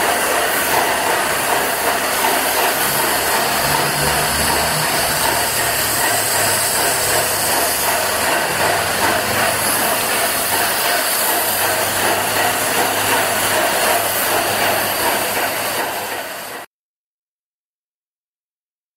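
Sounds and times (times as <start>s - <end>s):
paint sprayer hissing: 0.0s - 16.6s.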